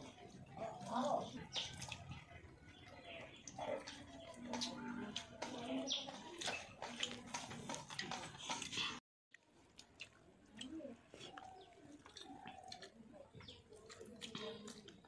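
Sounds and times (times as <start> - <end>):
wet chewing and lip smacks: 0.2 - 5.4, 6.4 - 15.0.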